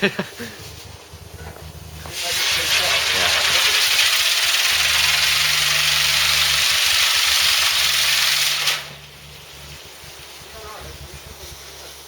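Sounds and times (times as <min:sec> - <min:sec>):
firework hissing sparks: 0:02.0 - 0:12.0.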